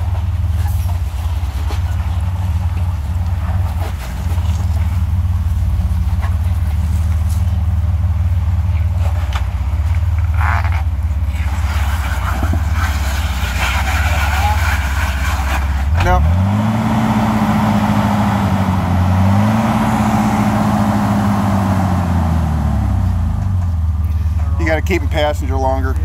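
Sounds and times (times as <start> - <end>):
vehicle engine low drone: 0.0 - 26.0.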